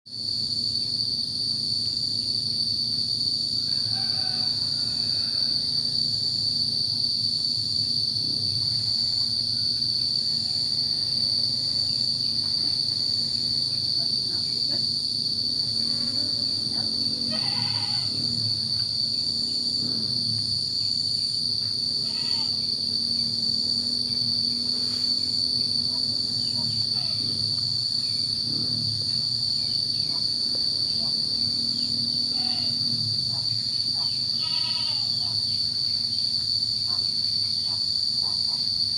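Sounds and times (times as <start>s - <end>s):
insects trilling: 0.1s - 38.9s.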